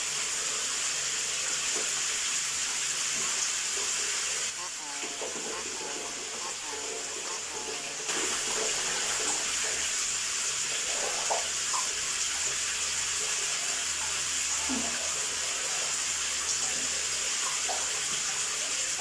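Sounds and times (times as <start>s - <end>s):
water running: 0.0s - 19.0s.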